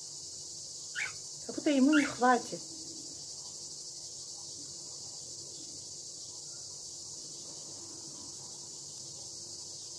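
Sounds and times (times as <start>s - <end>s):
high-pitched insect chorus: 0.0s - 9.9s.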